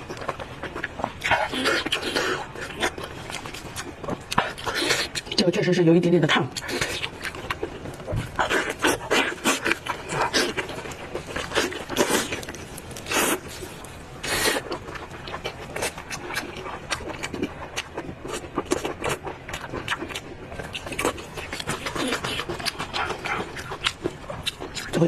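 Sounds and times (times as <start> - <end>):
wet chewing and smacking: 0.0 - 5.7, 6.4 - 25.0.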